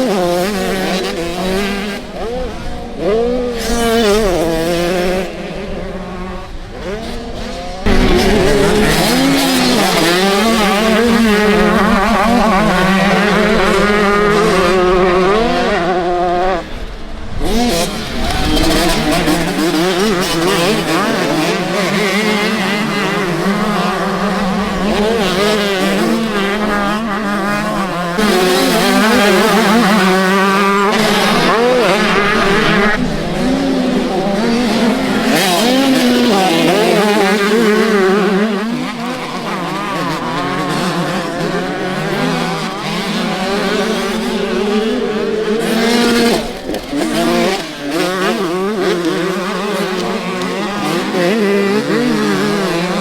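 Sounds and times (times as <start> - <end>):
motocross bikes revving: 0.0 - 53.0.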